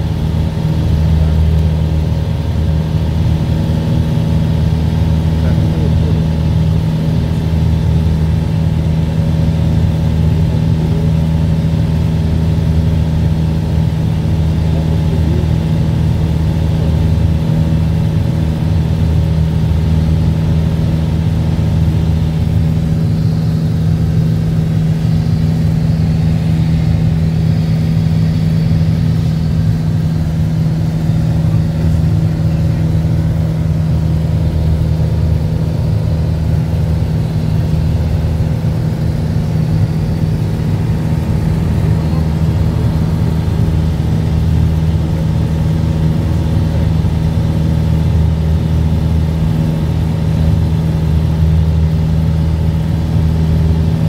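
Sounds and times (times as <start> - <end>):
light aircraft engine and propeller drone: 0.0 - 54.0.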